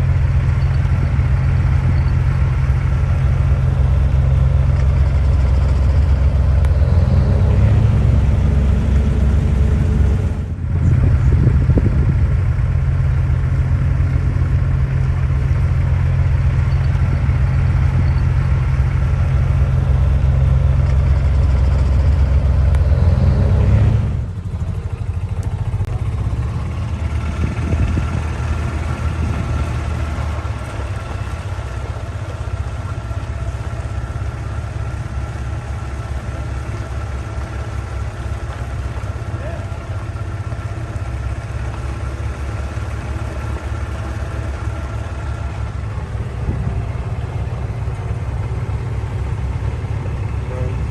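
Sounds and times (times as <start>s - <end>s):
diesel truck engine pulling away: 0.0s - 50.9s.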